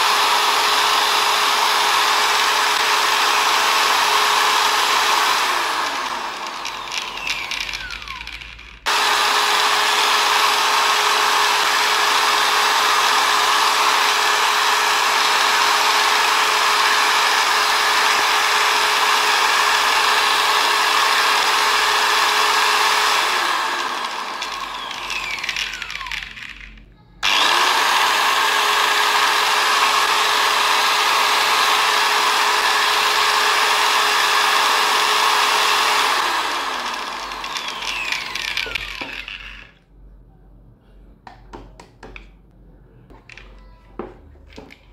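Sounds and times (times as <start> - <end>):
electric drill whining: 0.0 - 39.8.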